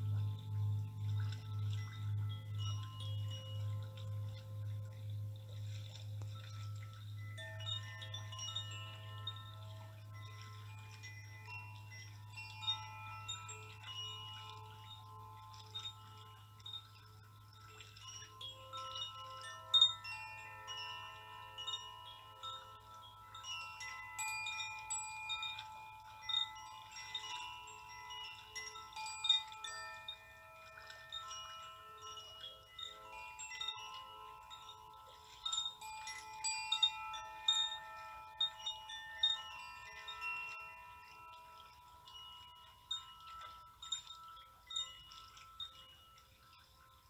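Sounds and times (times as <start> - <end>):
wind chimes ringing: 0.0 - 47.0.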